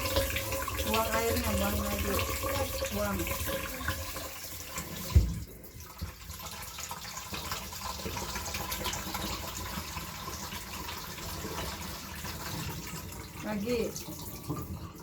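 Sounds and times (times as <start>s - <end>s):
tap water splashing into pot: 0.0s - 15.0s.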